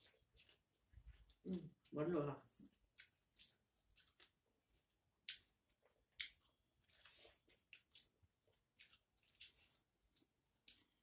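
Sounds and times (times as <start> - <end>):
mouth chewing clicks and smacks: 0.0 - 11.0.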